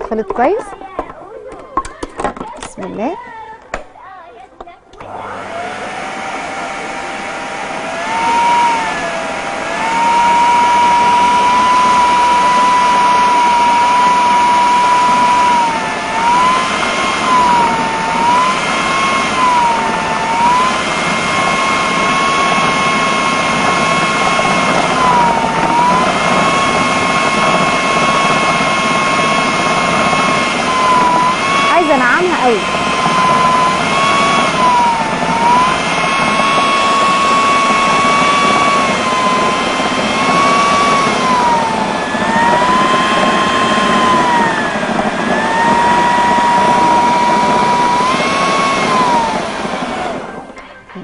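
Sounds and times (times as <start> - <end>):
food processor motor whining: 4.9 - 50.6.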